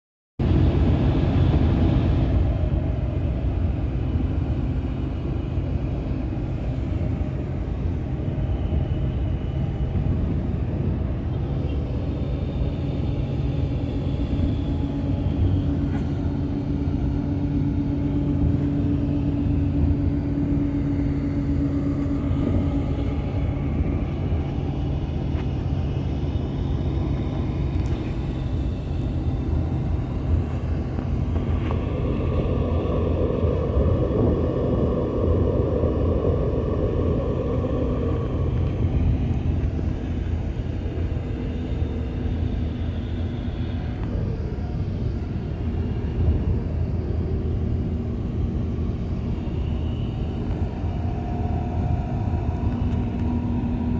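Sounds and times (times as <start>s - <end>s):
vehicle engine and road rumble: 0.4s - 53.9s.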